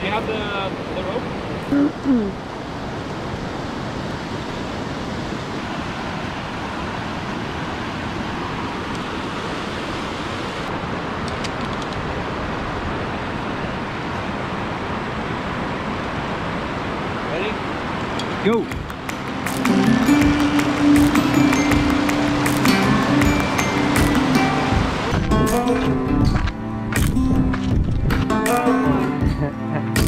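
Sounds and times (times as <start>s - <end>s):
river rushing over rapids: 0.0s - 29.4s.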